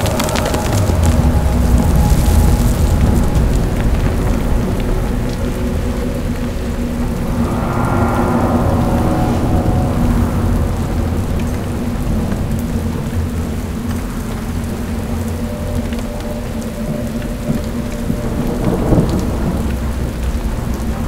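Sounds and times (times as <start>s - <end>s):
steady rain: 0.0s - 21.0s
thunder rumble: 0.0s - 21.0s.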